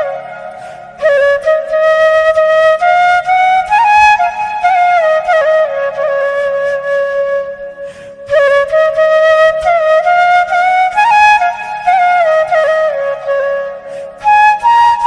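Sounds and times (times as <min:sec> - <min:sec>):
solo flute melody: 0:00.0 - 0:15.0.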